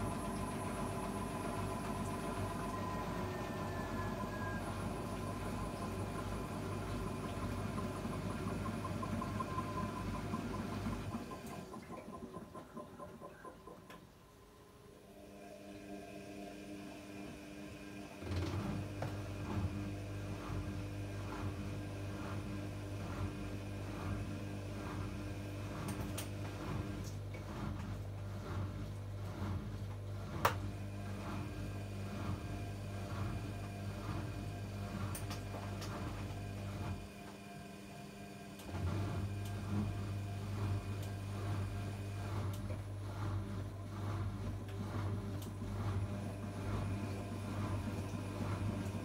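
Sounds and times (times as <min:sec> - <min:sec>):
washing machine motor hum: 0:00.0 - 0:49.0.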